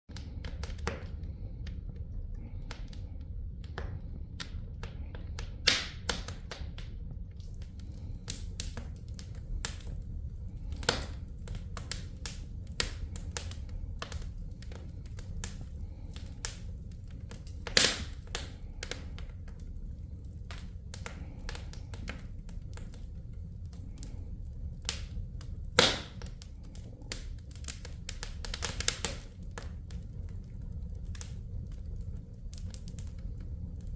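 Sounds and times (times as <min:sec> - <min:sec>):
low rumble: 0:00.1 - 0:33.9
wood fire crackling and popping: 0:00.1 - 0:33.9.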